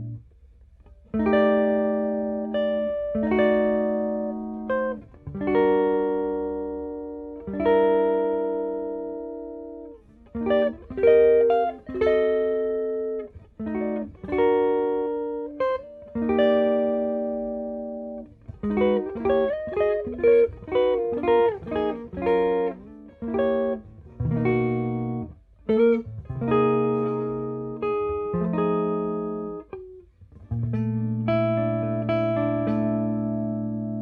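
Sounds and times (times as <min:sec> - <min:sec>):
clean jazz electric guitar: 0:00.0 - 0:34.0.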